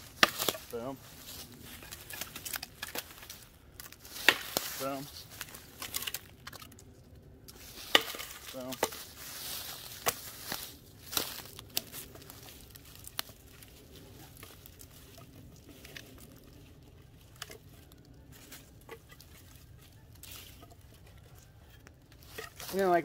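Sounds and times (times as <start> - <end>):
dry sticks cracking: 0.0 - 23.0
rustle of dry leaves and twigs: 0.0 - 23.0.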